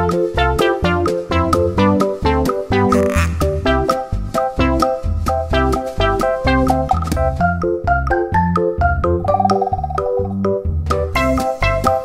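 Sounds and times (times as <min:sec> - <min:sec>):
bass line: 0:01.4 - 0:11.3.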